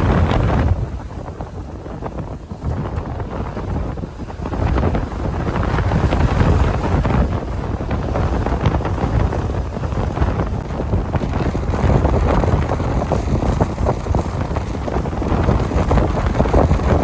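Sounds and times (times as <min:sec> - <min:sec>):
strong gusty wind on microphone: 0:00.0 - 0:17.0.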